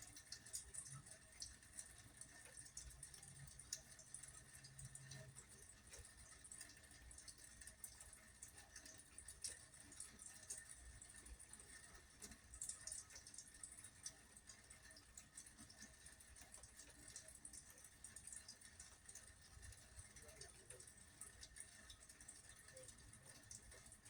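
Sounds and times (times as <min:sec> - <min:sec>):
rain drops ticking: 0:00.0 - 0:24.0.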